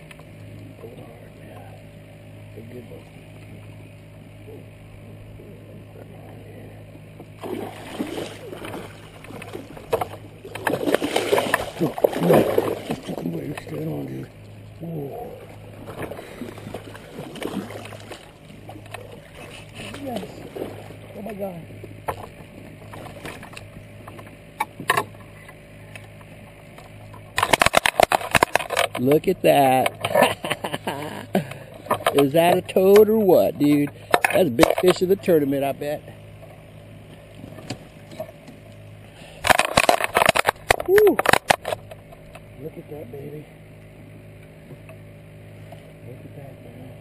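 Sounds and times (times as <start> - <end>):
water sloshing and gurgling: 0.0 - 42.6, 43.5 - 46.1
low steady hum: 0.0 - 47.0.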